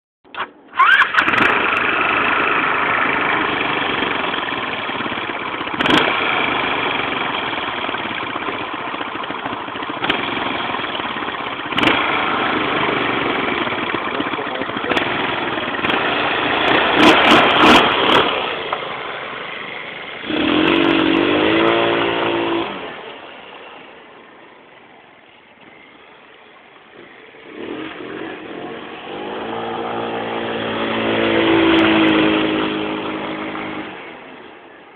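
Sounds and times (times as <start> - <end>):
scooter engine accelerating: 0.4 - 34.8.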